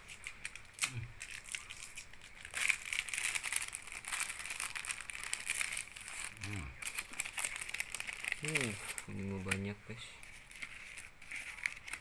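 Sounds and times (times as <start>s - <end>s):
plastic sleeves crinkling: 0.0s - 12.0s.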